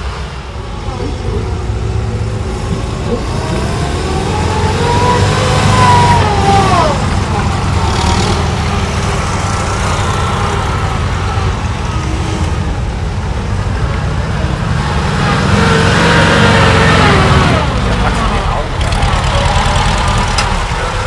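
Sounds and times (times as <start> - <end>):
air-cooled engines running under load: 0.0 - 21.0.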